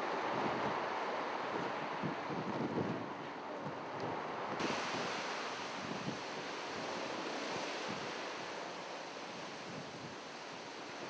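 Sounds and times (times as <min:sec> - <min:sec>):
sea waves: 0:00.0 - 0:11.0
wind buffeting microphone: 0:00.0 - 0:11.0.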